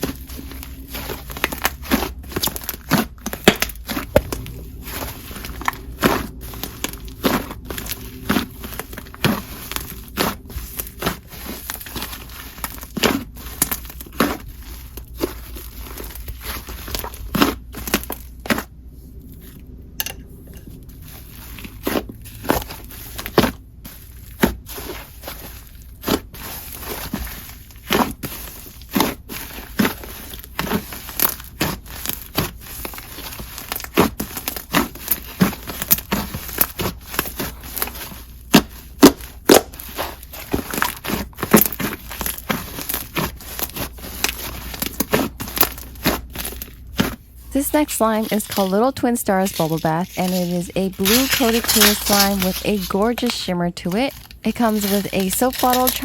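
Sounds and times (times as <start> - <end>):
hands squishing slime: 0.0 - 19.6, 20.9 - 56.0.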